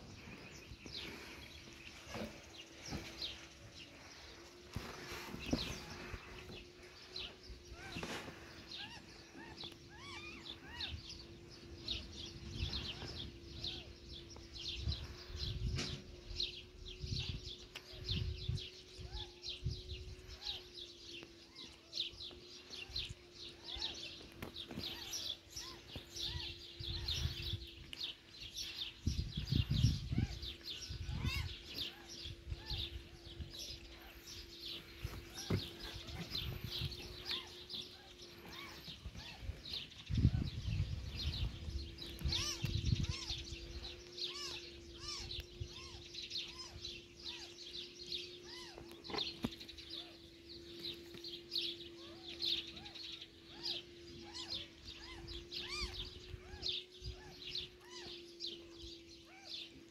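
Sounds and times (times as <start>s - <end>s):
small birds chirping: 0.0s - 59.9s
steady low hum: 0.0s - 59.9s.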